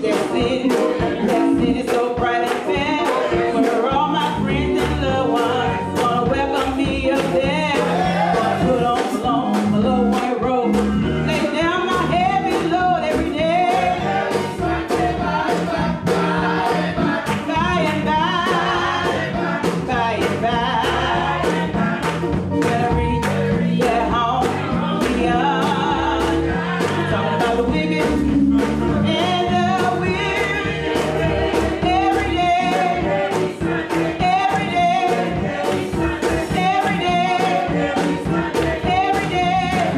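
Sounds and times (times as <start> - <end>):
band accompaniment: 0.0 - 39.9
bass line: 0.0 - 39.9
gospel choir singing: 0.0 - 39.9.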